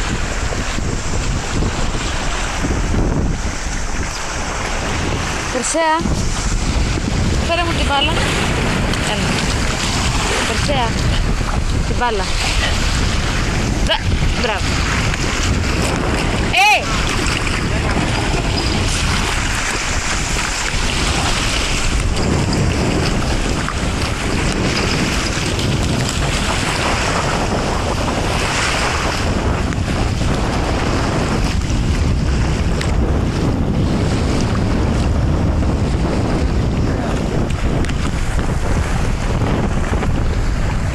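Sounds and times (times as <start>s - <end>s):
sea water sloshing and splashing: 0.0s - 40.9s
wind noise on microphone: 0.0s - 40.9s.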